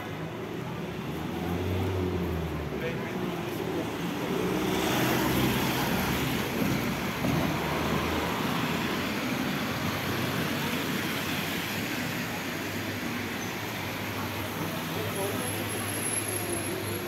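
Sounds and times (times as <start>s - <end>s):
vehicles driving past: 0.0s - 17.0s.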